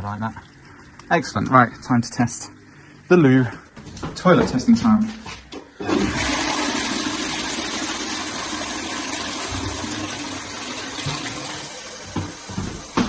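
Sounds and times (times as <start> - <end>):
toilet flushing: 0.0 - 3.4, 5.6 - 13.0.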